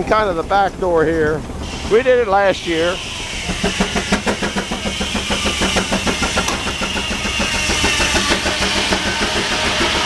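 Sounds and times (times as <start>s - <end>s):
steam engine exhaust beating: 0.0s - 10.0s
high steady whine: 1.1s - 10.0s.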